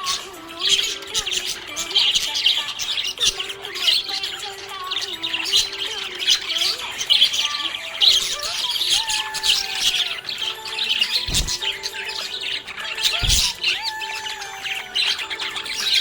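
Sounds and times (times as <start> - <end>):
budgie chirping: 0.0 - 16.0.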